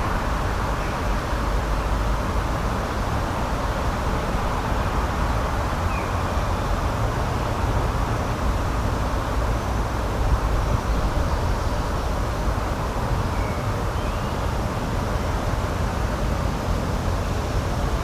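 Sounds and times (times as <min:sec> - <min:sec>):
rushing nature ambience: 0:00.0 - 0:18.0.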